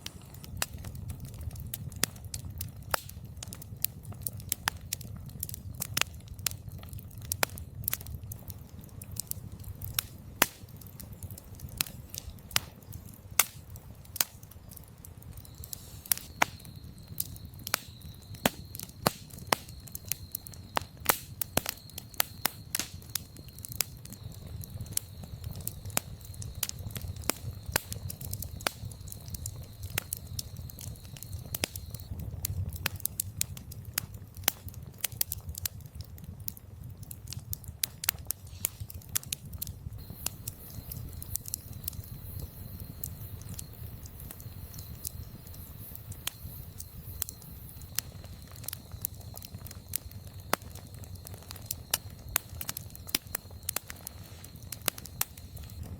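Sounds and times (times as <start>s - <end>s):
campfire crackling and popping: 0.0s - 55.9s
low rumble of burning: 0.0s - 55.9s.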